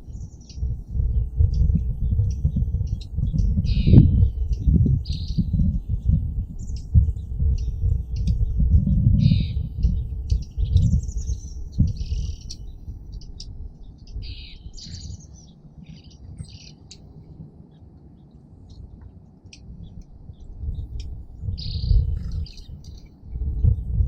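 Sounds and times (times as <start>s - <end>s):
low rumble: 0.0s - 24.0s
songbirds chirping: 0.0s - 24.0s.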